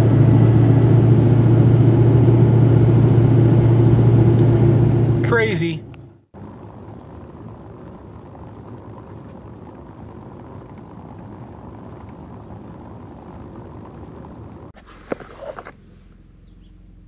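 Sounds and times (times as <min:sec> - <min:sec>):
vehicle rumbling on the move: 0:00.0 - 0:17.0.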